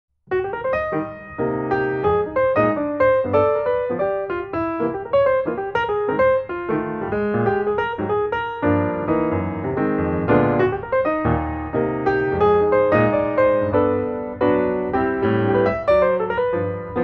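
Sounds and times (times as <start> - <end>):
piano music: 0.3 - 17.0.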